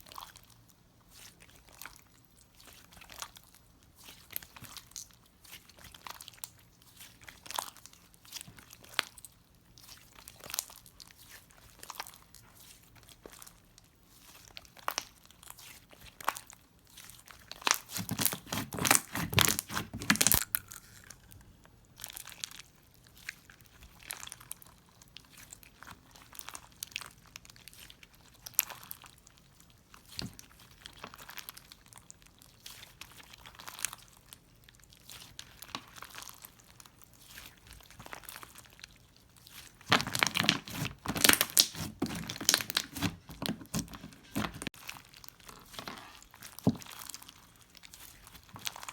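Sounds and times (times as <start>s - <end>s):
slime crackling and popping: 0.1s - 48.9s.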